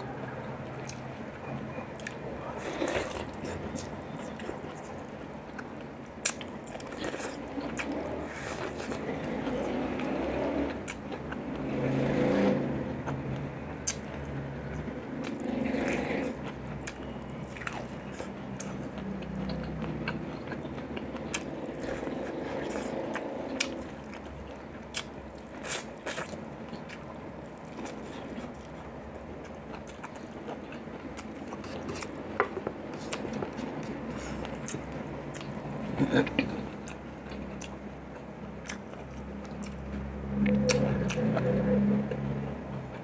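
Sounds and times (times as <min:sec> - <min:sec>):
chewing corn on the cob: 0:02.0 - 0:43.0.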